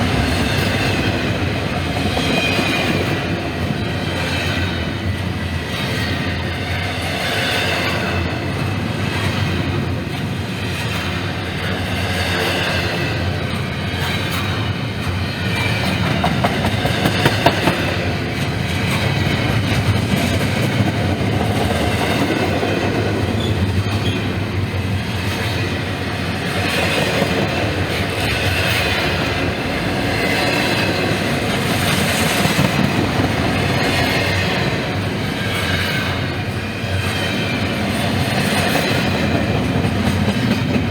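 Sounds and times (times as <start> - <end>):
clickety-clack over rail joints: 0.0 - 40.9
train wheels rumbling on rails: 0.0 - 40.9.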